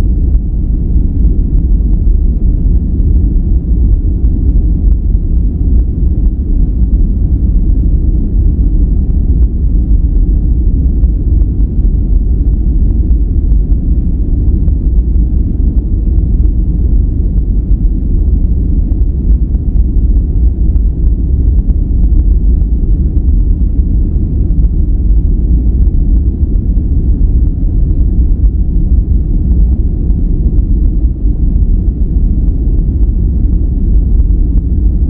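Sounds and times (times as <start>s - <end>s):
deep bass-heavy noise: 0.0s - 35.0s.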